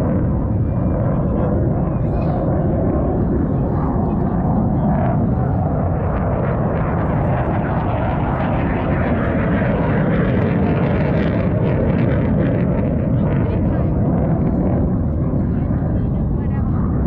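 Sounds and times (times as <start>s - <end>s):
airplane engine roaring: 0.0s - 17.0s.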